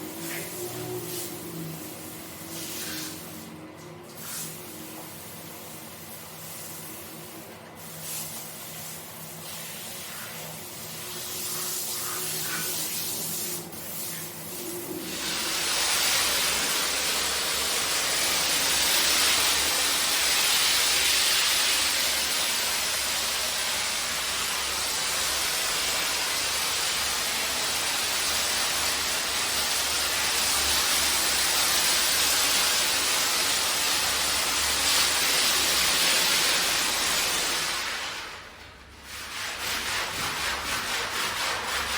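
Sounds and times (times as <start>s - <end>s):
water spraying on carpet: 0.1s - 3.4s, 6.5s - 41.9s.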